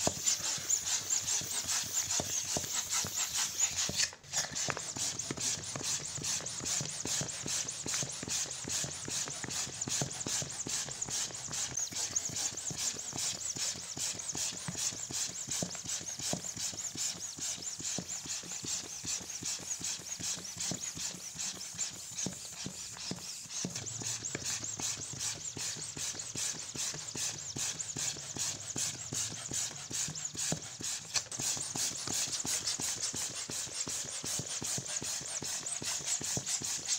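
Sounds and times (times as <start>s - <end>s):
electric balloon pump blowing air: 0.0s - 36.9s.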